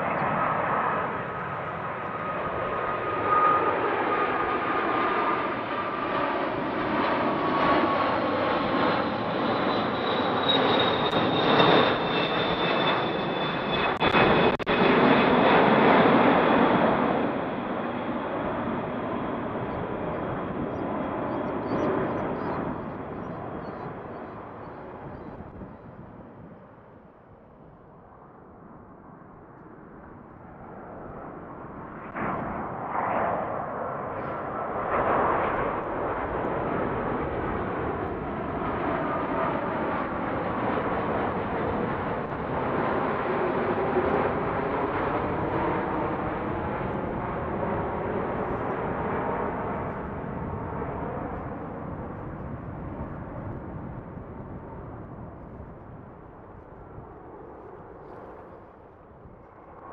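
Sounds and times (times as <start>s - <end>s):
jet airliner passing overhead: 0.0s - 59.9s.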